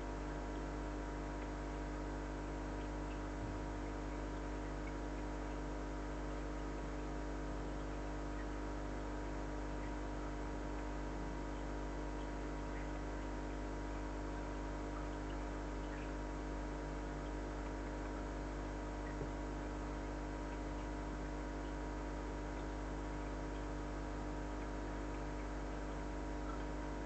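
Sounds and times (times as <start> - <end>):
aquarium equipment electrical hum: 0.0 - 27.0
faint ticks: 0.2 - 27.0.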